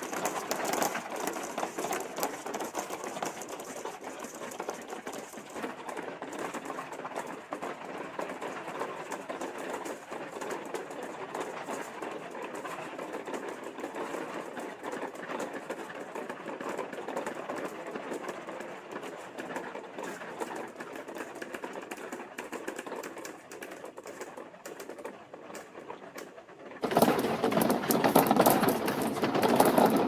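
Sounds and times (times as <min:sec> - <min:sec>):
marbles rolling on plastic track: 0:00.0 - 0:30.0.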